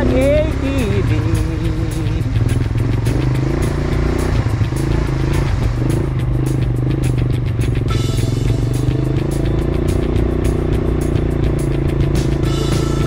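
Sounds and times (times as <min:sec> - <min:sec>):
atv engine running: 0:00.0 - 0:13.0
background music with beat: 0:00.0 - 0:13.0.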